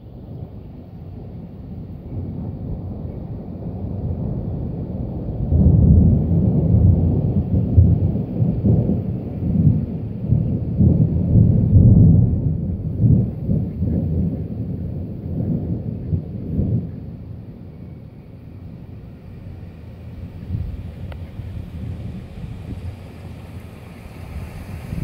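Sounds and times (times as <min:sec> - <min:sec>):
gusty wind on microphone: 0:00.0 - 0:25.0.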